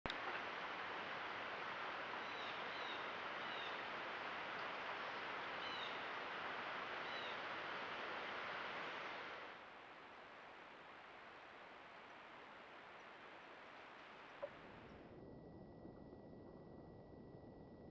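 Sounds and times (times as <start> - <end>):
outdoor hiss: 0.1 - 15.1.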